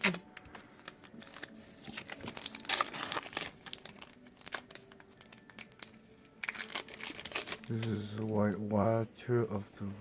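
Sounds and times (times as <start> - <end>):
cards rustling: 0.0 - 8.4
plastic foil wrapper crinkling: 0.0 - 8.4.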